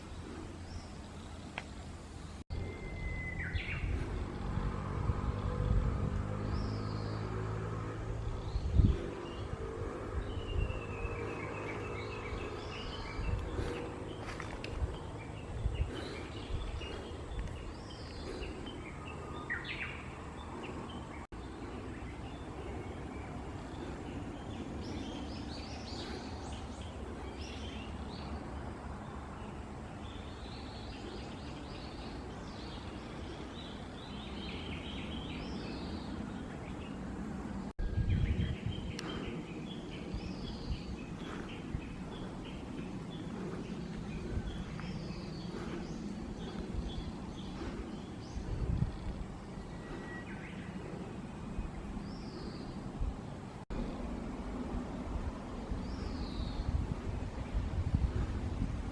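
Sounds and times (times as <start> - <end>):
outdoor background hiss: 0.0 - 58.9
small birds chirping: 0.0 - 58.9.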